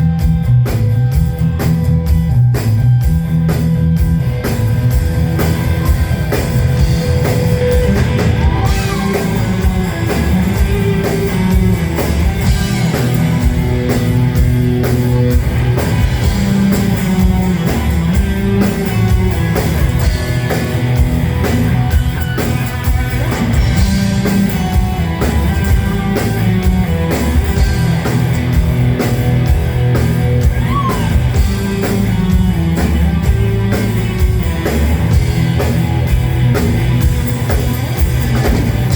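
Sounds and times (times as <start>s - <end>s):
electric guitar: 0.0s - 38.9s
pounding drum kit: 0.0s - 38.9s
rock band playing live: 0.0s - 38.9s.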